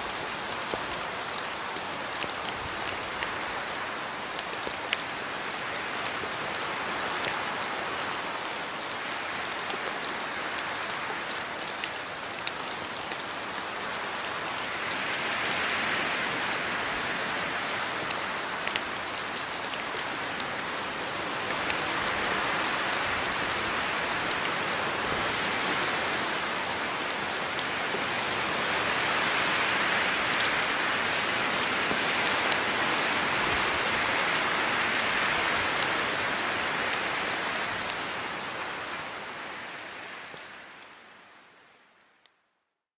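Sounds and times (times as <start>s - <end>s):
rain falling: 0.0s - 42.4s.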